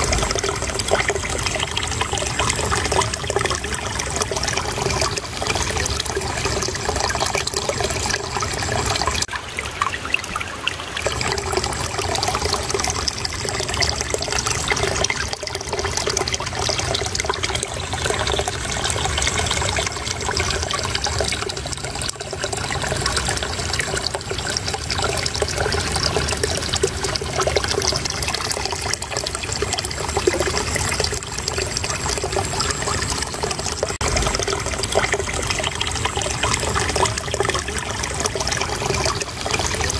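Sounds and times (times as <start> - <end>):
water babbling: 0.0 - 39.9.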